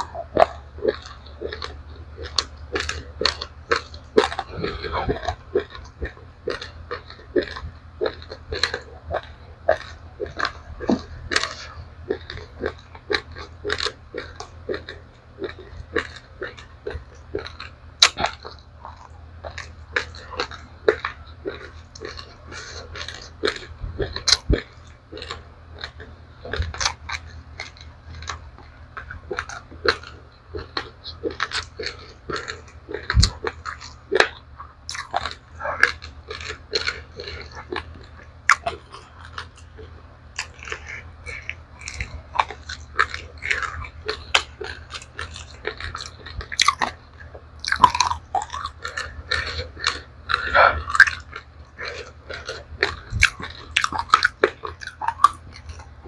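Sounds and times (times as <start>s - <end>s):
crunching and chewing rice: 0.0s - 56.0s
low steady hum: 0.0s - 56.0s.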